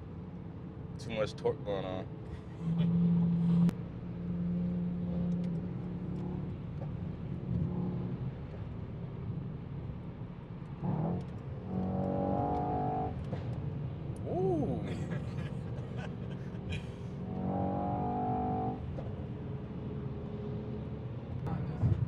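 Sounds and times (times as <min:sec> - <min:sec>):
road noise: 0:00.0 - 0:22.0
car engine: 0:02.2 - 0:21.8.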